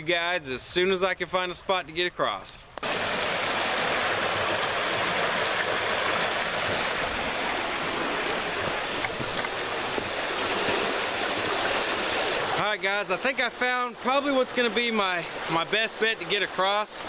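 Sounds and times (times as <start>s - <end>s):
river water rushing over rocks: 2.8s - 17.0s.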